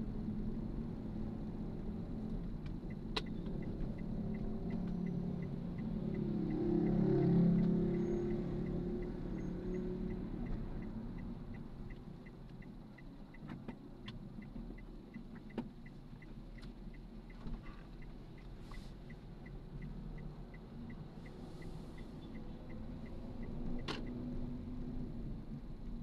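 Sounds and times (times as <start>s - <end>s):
indicator ticking: 2.8s - 24.2s.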